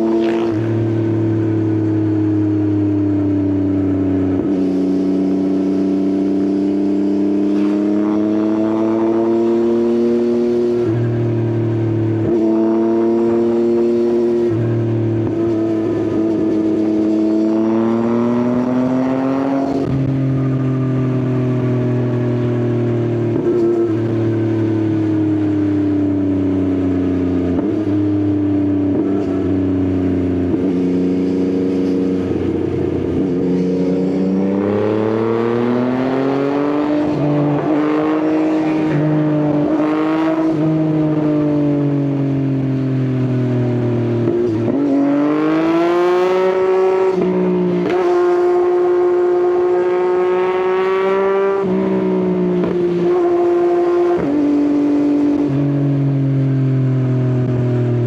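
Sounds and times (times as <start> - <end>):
motorcycle engine revving while riding: 0.0 - 58.0.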